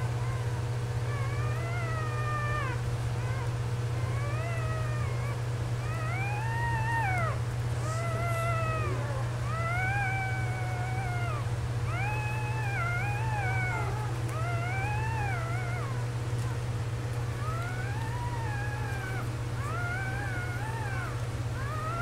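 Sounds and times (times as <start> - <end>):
steady low hum: 0.0 - 22.0
kitten mewing: 1.1 - 16.6, 17.3 - 22.0.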